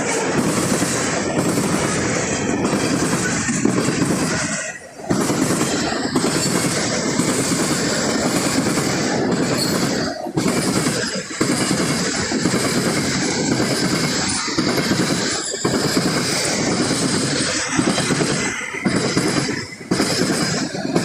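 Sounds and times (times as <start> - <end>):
train wheels clattering over rails: 0.0 - 21.0.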